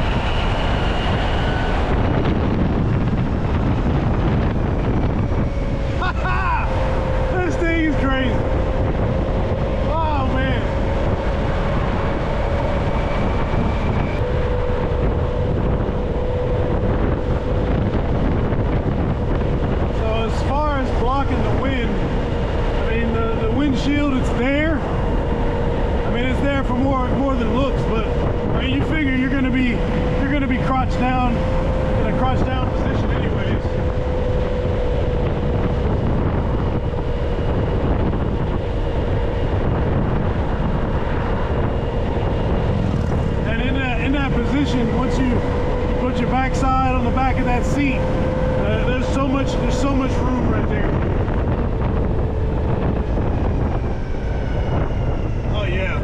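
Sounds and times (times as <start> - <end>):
electric motor whine: 0.0 - 56.0
wind rushing over microphone: 0.0 - 56.0.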